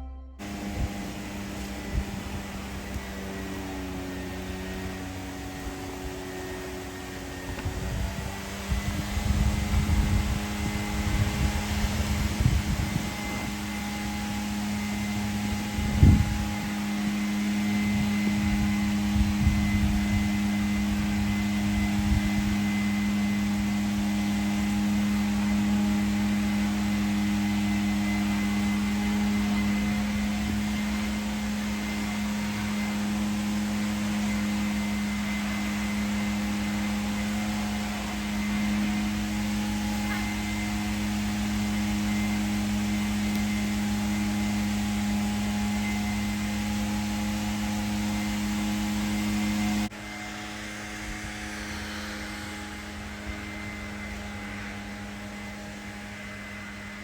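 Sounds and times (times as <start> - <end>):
low mechanical hum: 0.0 - 57.0
uneven low rumbling: 0.0 - 57.0.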